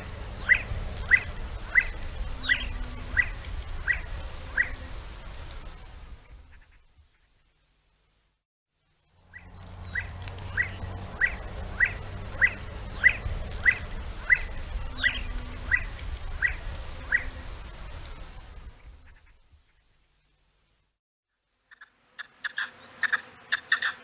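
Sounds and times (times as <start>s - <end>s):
low steady rumble: 0.0s - 20.9s.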